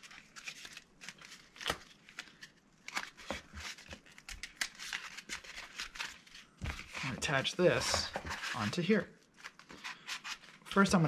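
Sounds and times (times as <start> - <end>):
cardboard and tape crinkling: 0.0 - 11.0.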